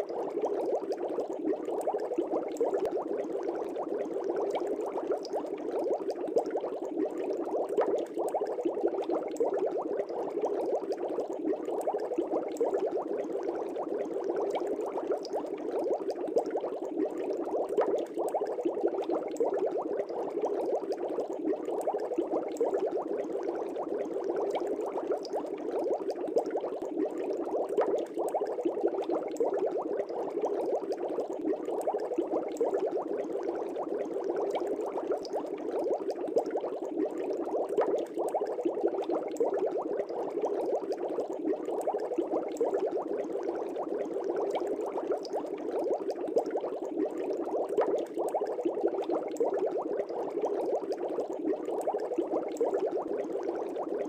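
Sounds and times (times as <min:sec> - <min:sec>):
air bubbles in fish tank: 0:00.0 - 0:54.0.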